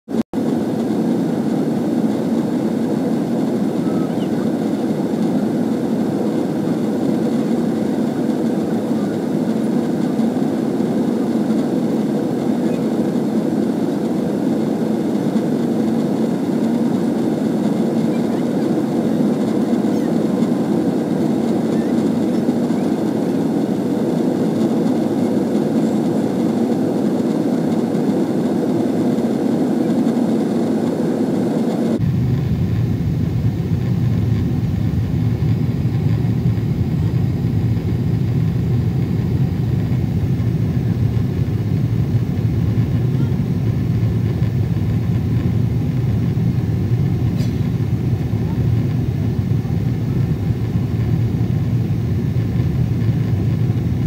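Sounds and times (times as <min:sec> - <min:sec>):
airliner cabin rumble: 0:00.4 - 0:54.0.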